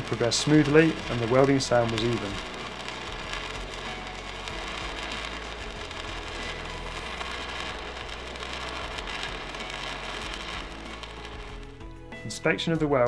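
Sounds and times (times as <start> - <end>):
welding arc sizzling: 0.0 - 13.0.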